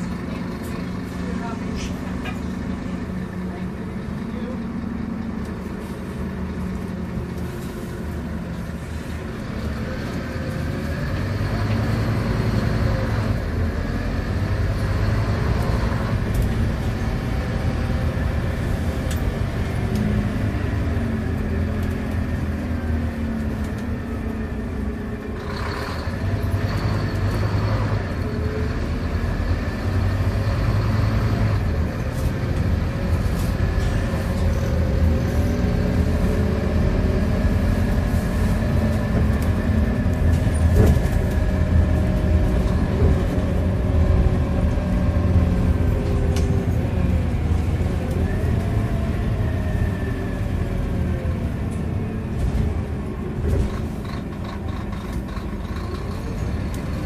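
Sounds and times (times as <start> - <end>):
bus diesel engine running: 0.0 - 57.0
road and tyre noise: 0.0 - 57.0.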